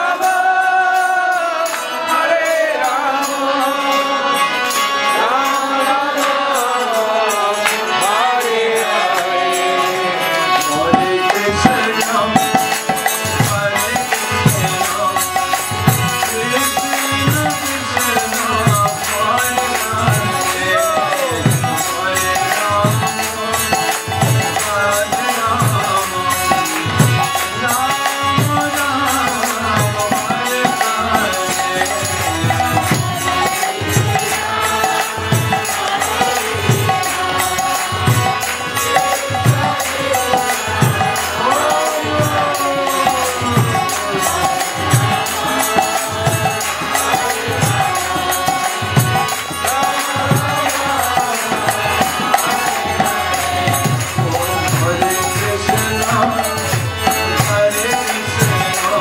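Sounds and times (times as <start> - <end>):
harmonium chords: 0.0 - 59.0
man singing a slow chant: 0.0 - 59.0.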